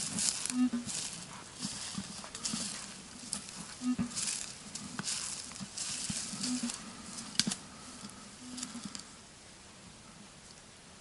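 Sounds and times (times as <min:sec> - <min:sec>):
footsteps swishing through dry grass: 0:00.0 - 0:08.8.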